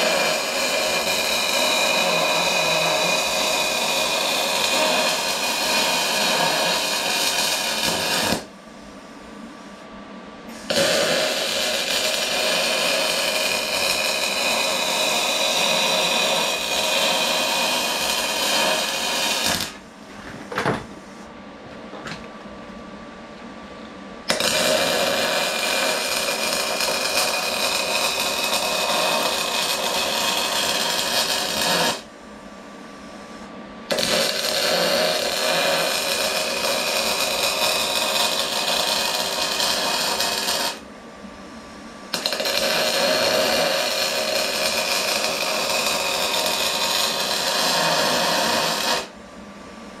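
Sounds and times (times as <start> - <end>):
welder arc crackling and hissing: 0.0 - 9.1, 10.5 - 20.0, 24.3 - 32.1, 33.9 - 40.9, 42.0 - 49.2.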